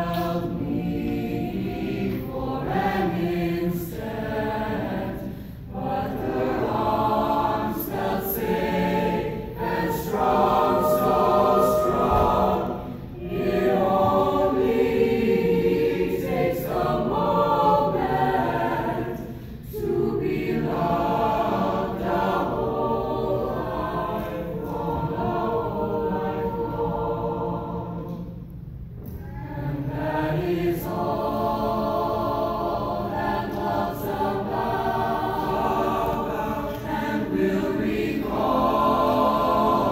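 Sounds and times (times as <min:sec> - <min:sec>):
choir singing: 0:00.0 - 0:28.5, 0:29.1 - 0:39.9.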